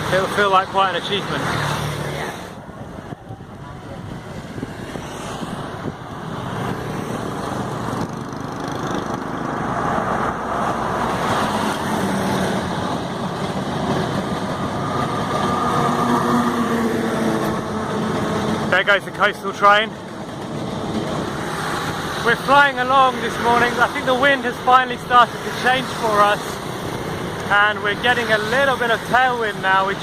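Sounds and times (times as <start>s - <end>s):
train rumble: 2.3s - 29.2s.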